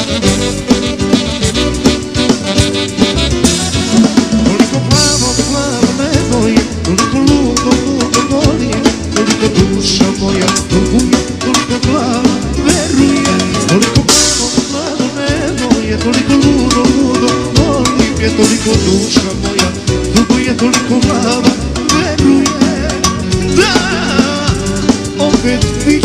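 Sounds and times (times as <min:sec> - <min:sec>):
band music: 0:00.0 - 0:26.0.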